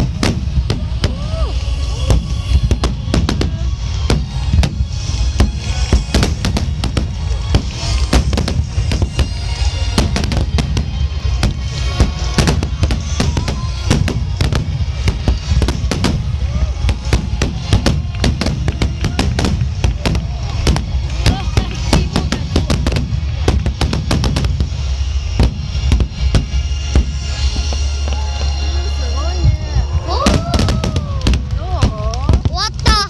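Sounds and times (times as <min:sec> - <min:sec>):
low booming rumble: 0:00.0 - 0:28.3
firework shell bursts and crackles: 0:00.0 - 0:28.7, 0:29.4 - 0:33.0.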